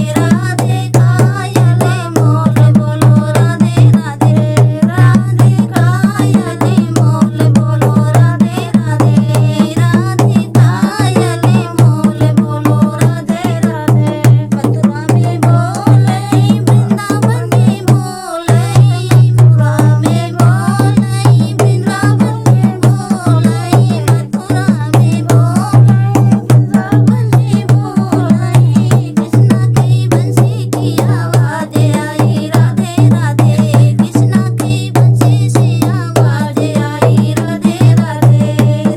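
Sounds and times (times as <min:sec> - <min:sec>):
hand drum rhythm: 0:00.0 - 0:38.9
person singing: 0:00.0 - 0:38.9.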